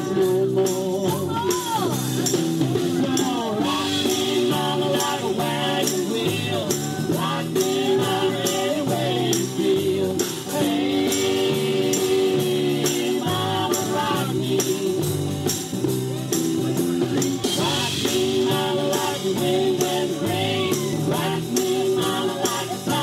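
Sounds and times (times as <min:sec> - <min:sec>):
country-rock band playing: 0:00.0 - 0:23.0.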